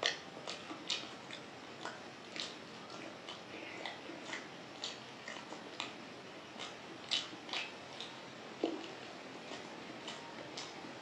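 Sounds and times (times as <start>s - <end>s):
wet mouth smacks and clicks: 0.0s - 2.6s, 3.2s - 6.0s, 6.6s - 10.7s
person chewing food: 0.0s - 11.0s.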